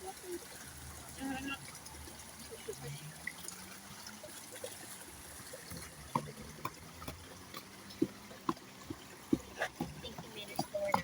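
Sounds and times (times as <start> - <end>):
water trickling over stones: 0.0 - 11.0.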